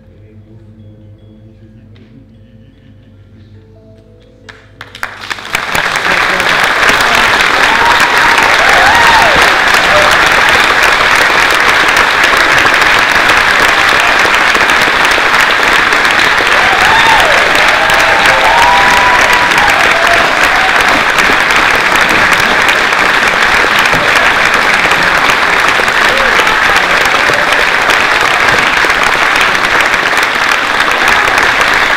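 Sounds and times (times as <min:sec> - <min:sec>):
audience applauding: 0:04.5 - 0:31.9.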